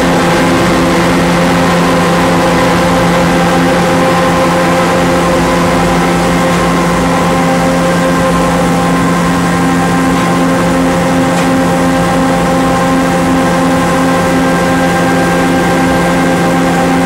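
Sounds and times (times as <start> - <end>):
heavy machinery droning: 0.0 - 17.0.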